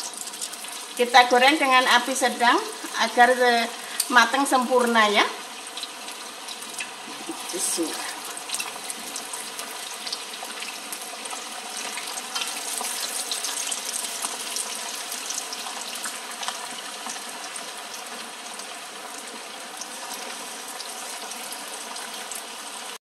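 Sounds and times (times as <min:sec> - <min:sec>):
chicken deep-frying in oil: 0:00.0 - 0:23.0.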